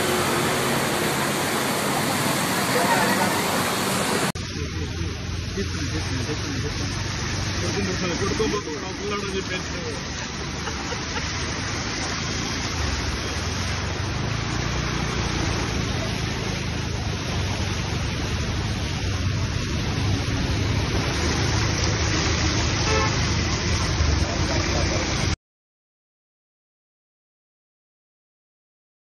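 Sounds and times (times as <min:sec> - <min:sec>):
floodwater rushing: 0:00.0 - 0:25.4.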